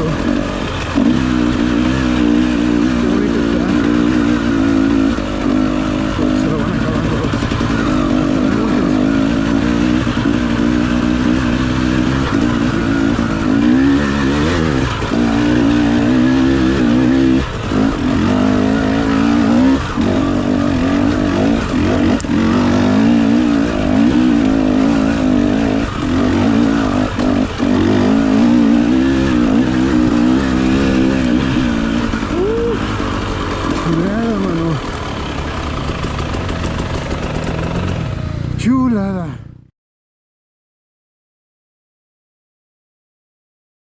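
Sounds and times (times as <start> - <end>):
dirt bike engine revving: 0.0 - 39.2.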